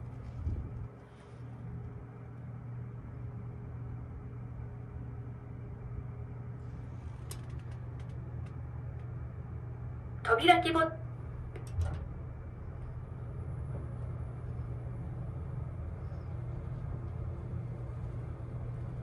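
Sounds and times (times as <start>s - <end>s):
elevator machinery hum: 0.0s - 19.0s.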